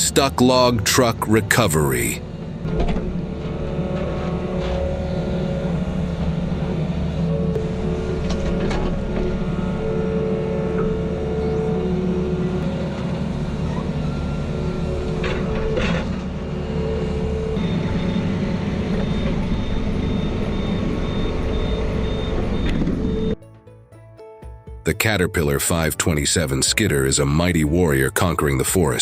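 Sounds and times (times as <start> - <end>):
diesel machinery engine drone: 0.0 - 23.4.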